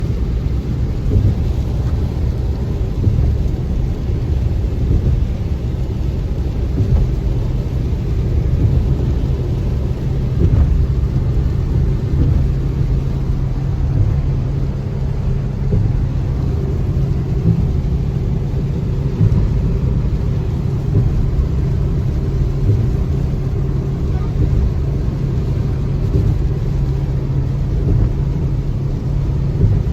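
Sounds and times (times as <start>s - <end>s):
car driving on wet road: 0.0s - 29.9s.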